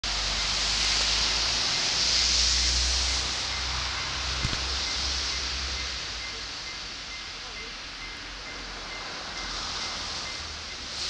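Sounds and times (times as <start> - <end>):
wind hiss: 0.0 - 11.0.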